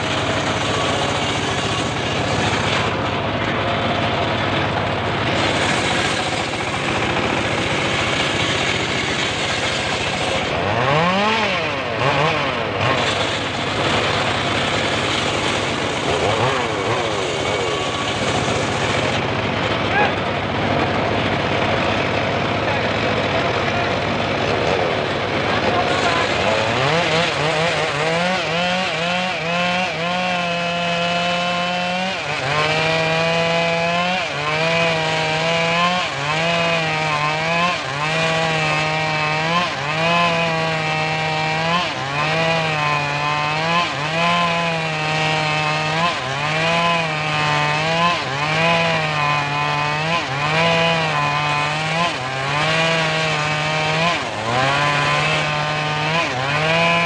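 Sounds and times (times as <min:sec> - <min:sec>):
saw engine running: 0:00.0 - 0:57.0.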